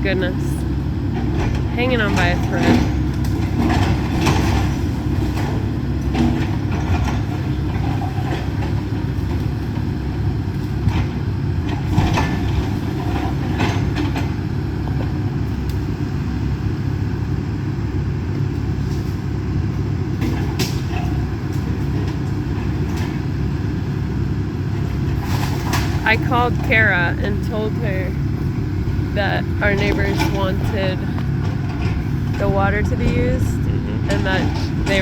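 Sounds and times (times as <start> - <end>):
excavator diesel engine rumble: 0.0 - 35.0.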